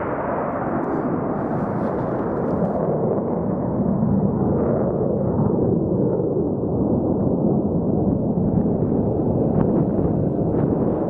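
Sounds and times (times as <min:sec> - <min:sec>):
jet engine deep rumble: 0:00.0 - 0:11.0.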